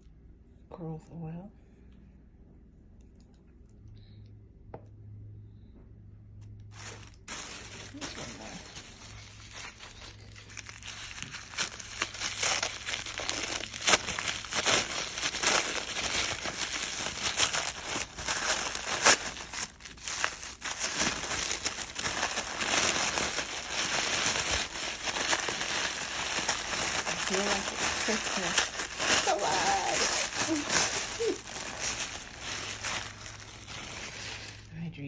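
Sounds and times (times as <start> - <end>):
packaging crinkling and tearing: 6.6 - 34.7.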